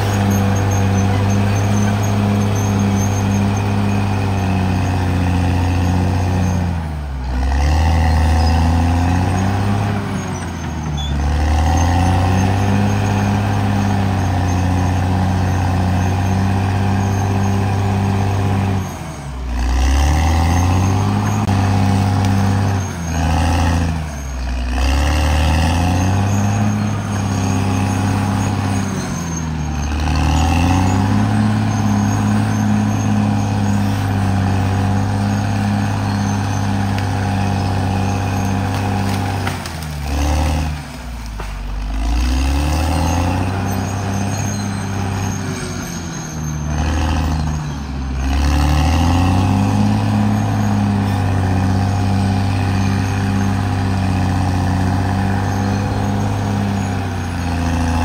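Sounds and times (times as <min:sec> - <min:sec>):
bulldozer diesel engine running hard: 0:00.0 - 0:58.0.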